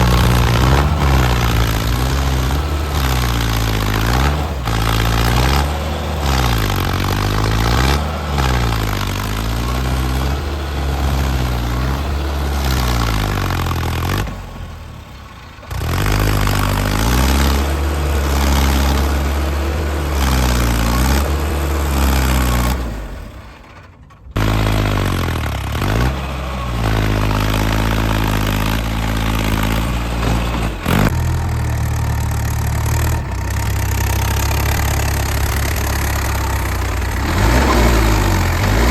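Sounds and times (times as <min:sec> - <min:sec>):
diesel tractor engine revving: 0:00.0 - 0:38.9.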